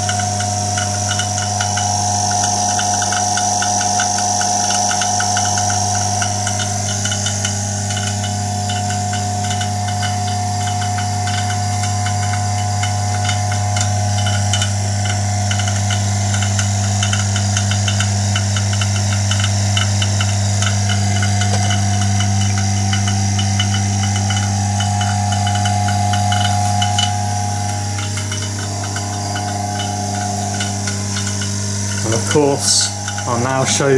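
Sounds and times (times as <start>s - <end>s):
high buzz: 0.0s - 33.9s
loud electrical hum: 0.0s - 33.9s.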